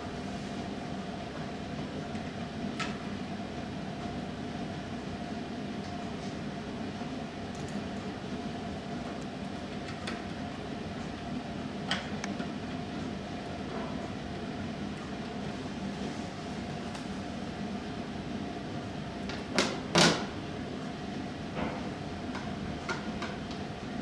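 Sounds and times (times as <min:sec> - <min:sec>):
room hum and hiss: 0:00.0 - 0:24.0.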